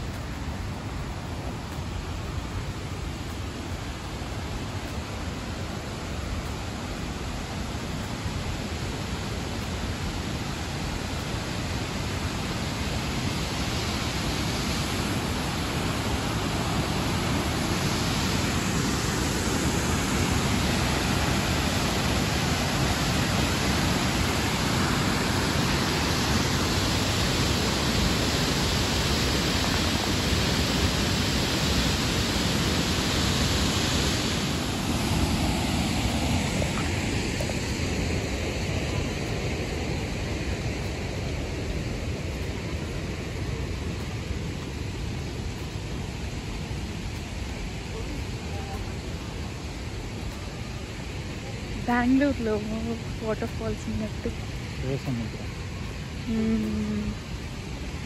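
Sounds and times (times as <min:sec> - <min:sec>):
waterfall rushing: 0:00.0 - 0:56.3.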